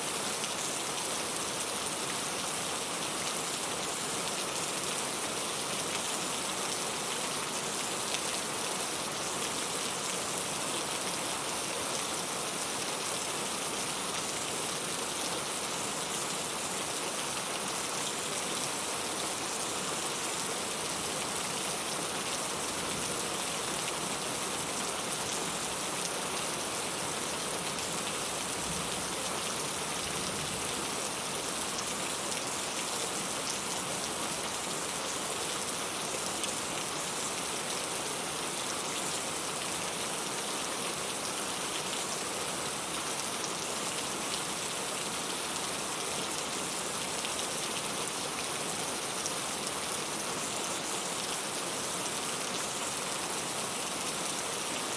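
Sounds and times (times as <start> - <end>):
rain pattering on a surface: 0.1 - 54.9.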